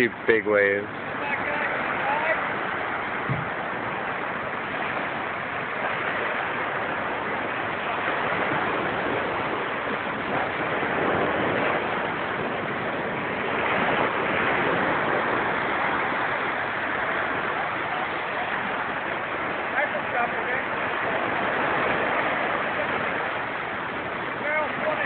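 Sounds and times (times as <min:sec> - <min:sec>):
surf washing onto sandy beach: 0:00.0 - 0:25.0.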